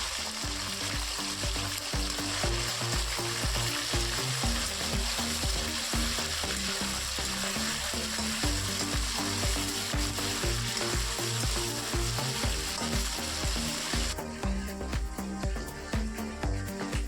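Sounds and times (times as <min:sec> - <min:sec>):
food sizzling in a pan: 0:00.0 - 0:16.3
background music with beat: 0:00.0 - 0:17.0.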